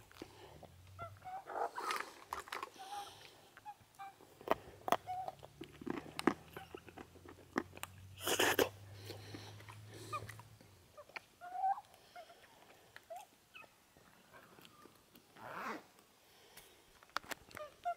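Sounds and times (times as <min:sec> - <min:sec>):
birds pecking ground: 0:00.0 - 0:15.3.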